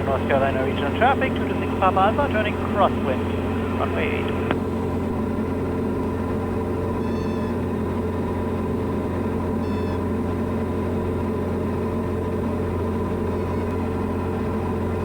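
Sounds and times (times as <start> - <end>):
light aircraft engine and propeller drone: 0.0 - 15.0.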